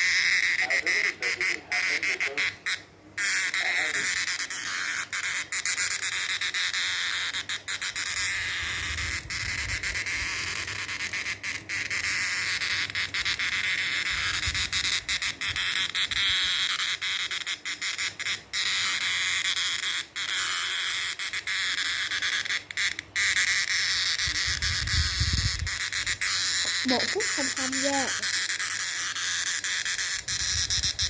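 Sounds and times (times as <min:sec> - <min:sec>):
cicada buzzing: 0:00.0 - 0:31.0.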